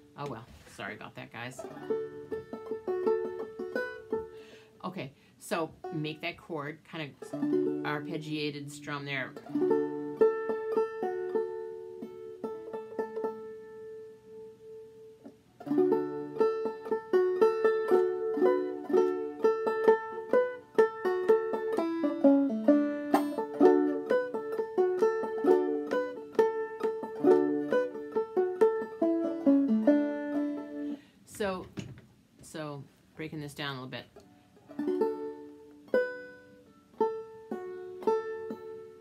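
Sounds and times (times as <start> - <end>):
banjo picking and strumming: 0.0 - 31.5, 33.5 - 39.0.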